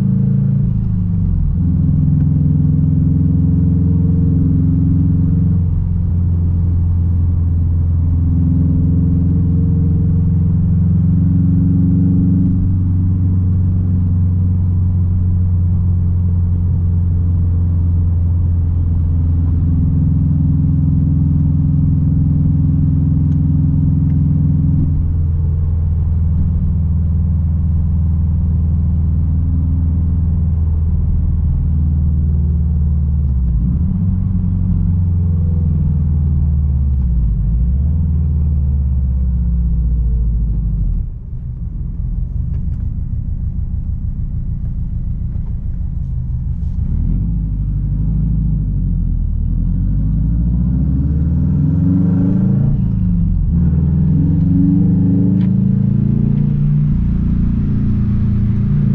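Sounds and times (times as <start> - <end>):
car exhaust low rumble: 0.0 - 58.9.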